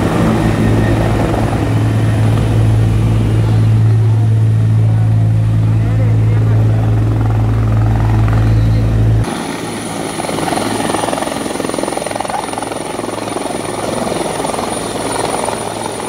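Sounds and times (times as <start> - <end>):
helicopter rotor beat: 0.0 - 16.0
helicopter turbine whine: 0.0 - 16.0.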